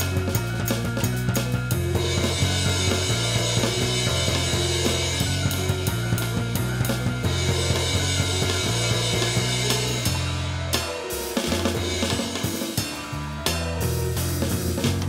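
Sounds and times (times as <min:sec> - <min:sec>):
drum kit: 0:00.0 - 0:15.0
electric bass line: 0:00.0 - 0:15.0
keyboard: 0:00.0 - 0:15.0.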